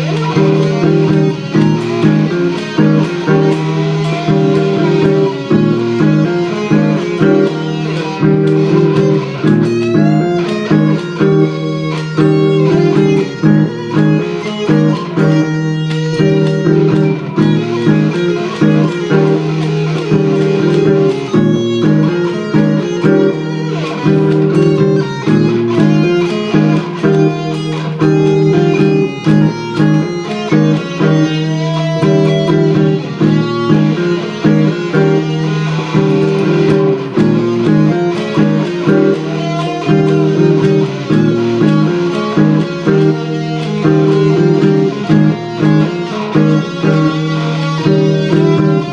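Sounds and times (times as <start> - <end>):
electric guitar lead line: 0.0 - 48.9
looped guitar chords: 0.0 - 48.9.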